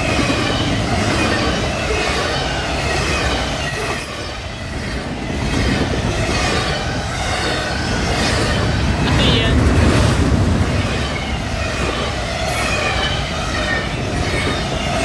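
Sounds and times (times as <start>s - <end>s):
high wheel squeal: 0.0s - 9.5s, 10.6s - 15.0s
freight train cars rolling past: 0.0s - 15.0s.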